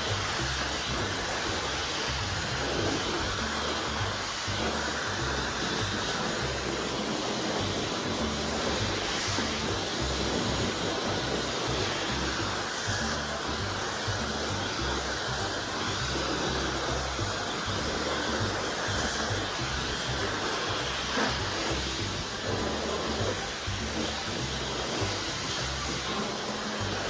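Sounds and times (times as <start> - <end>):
hair dryer blowing: 0.0 - 27.0.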